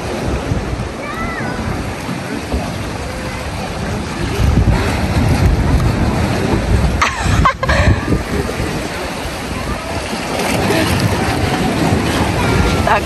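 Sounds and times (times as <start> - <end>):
small sea waves: 0.0 - 13.0
wind buffeting microphone: 0.0 - 13.0.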